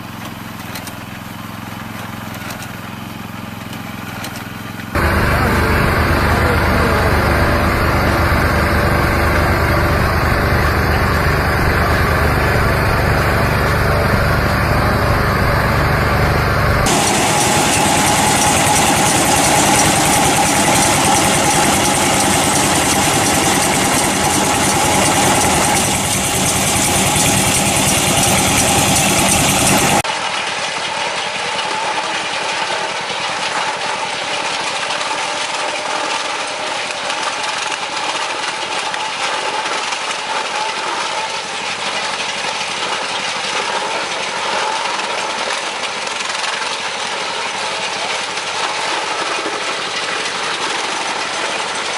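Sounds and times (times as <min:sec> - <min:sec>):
farm machinery engine running: 0:00.0 - 0:51.9
quieter machine running: 0:00.1 - 0:51.9.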